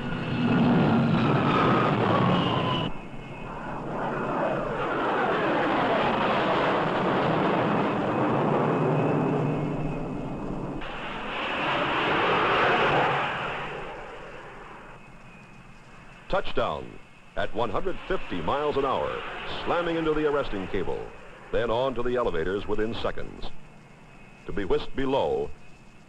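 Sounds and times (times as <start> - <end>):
falling jet whine: 0.0 - 26.0
jet engines flying past: 0.0 - 26.0.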